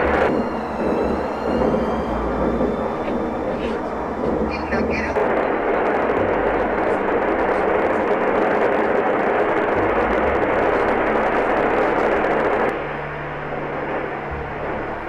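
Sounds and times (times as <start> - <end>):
low thuds: 0.0 - 15.0
volcanic eruption roar: 0.0 - 15.0.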